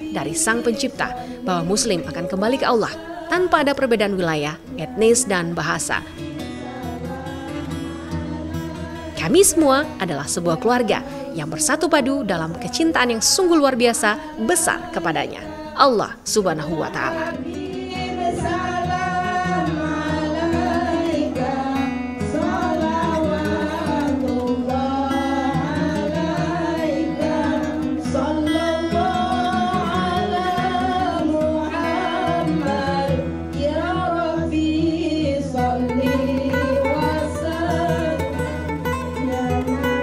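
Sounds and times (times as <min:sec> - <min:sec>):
person singing: 0:00.0 - 0:40.0.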